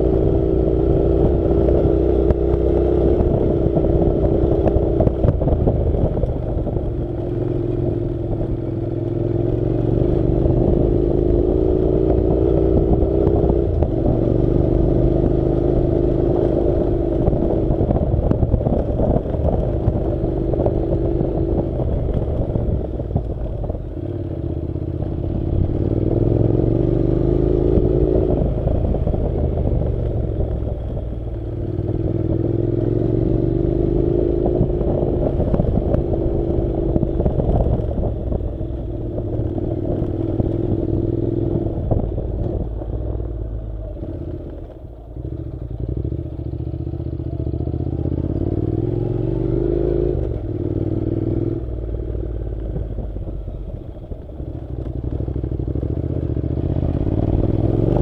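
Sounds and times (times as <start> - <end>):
motorcycle engine climbing: 0.0 - 58.0.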